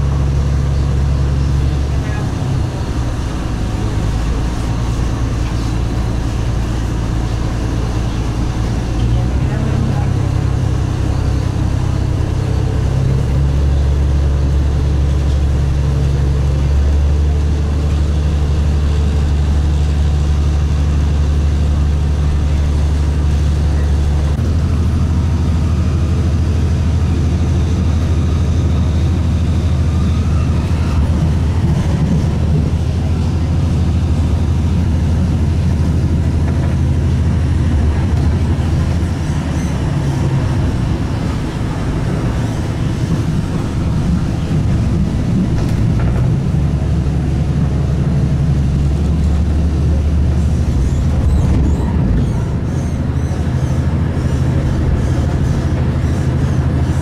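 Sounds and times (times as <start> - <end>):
tram drone: 0.0 - 57.0
wheel and track rumble: 0.0 - 57.0.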